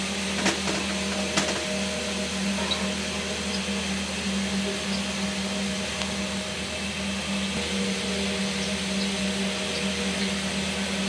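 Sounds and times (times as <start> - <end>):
small electric motor whirring: 0.0 - 11.0.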